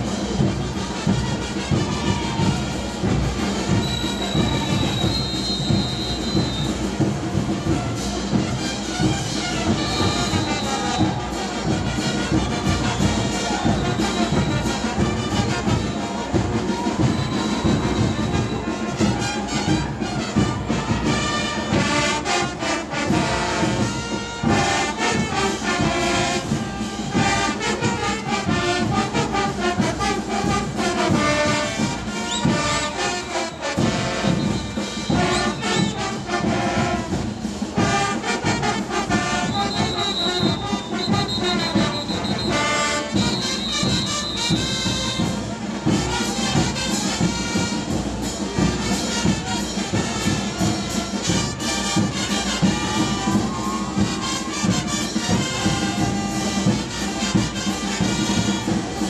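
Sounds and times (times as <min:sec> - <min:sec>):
brass band playing: 0:00.0 - 0:59.0
drums beating: 0:00.0 - 0:59.0
trumpets and trombones: 0:00.0 - 0:59.0.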